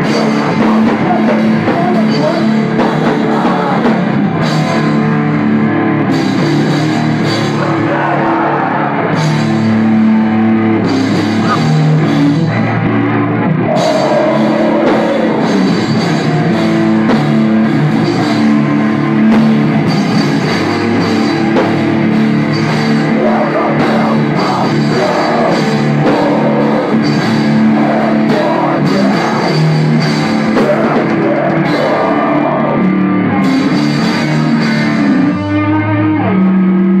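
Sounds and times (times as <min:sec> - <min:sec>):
bass guitar: 0:00.0 - 0:37.0
distorted electric guitar: 0:00.0 - 0:37.0
drum kit: 0:00.0 - 0:37.0.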